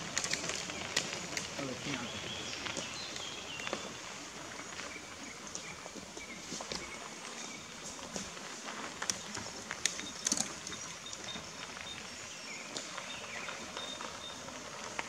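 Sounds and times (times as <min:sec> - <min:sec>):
bike tyres crunching on gravel: 0:00.0 - 0:15.0
faint birdsong: 0:00.0 - 0:15.0.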